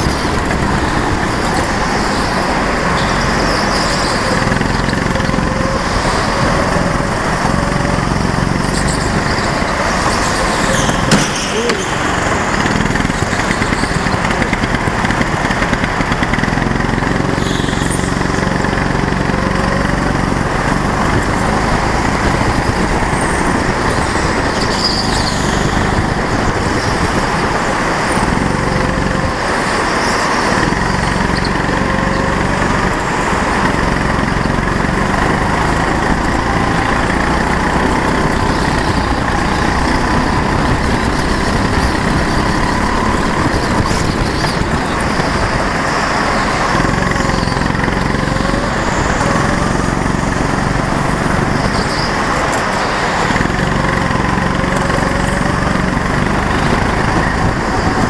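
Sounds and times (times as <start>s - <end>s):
go-kart engine racing: 0.0s - 58.0s
steady rush of noise: 0.0s - 58.0s.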